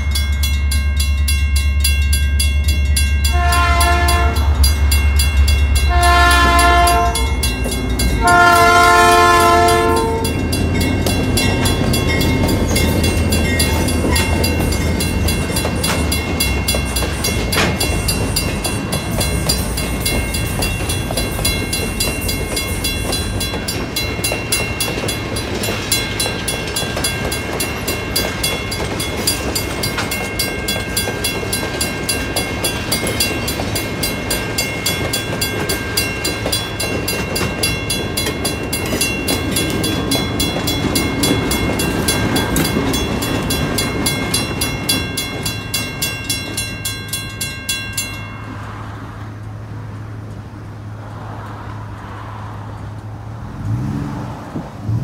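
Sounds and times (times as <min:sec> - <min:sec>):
crossing bell ringing: 0:00.0 - 0:50.0
train wheels rumbling on rails: 0:00.0 - 0:55.0.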